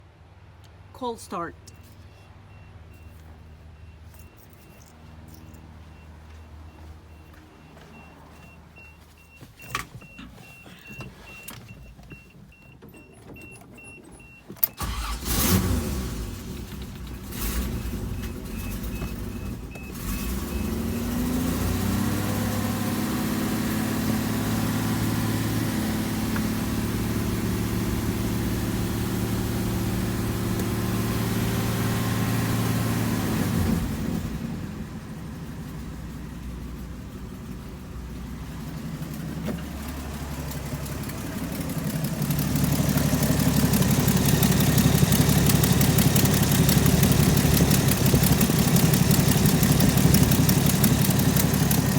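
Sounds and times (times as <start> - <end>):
car engine cranking and idling: 1.7 - 51.9.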